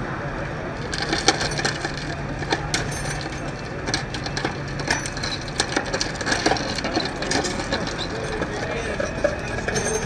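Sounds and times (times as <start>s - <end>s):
truck engine humming: 0.4s - 10.0s
debris clinking and crunching: 0.8s - 10.0s.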